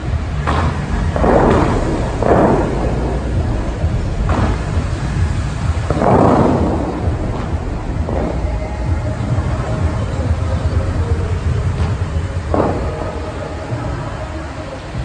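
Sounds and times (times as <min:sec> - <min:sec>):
falling spray hiss: 0:00.0 - 0:15.0
steady low rumble: 0:00.0 - 0:15.0
water jets blasting: 0:00.0 - 0:15.0.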